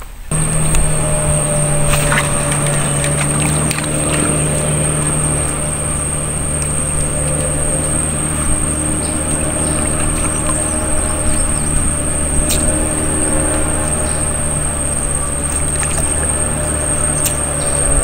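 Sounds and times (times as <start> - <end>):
boat engine running: 0.3 - 18.0
thin high whine: 0.3 - 18.0.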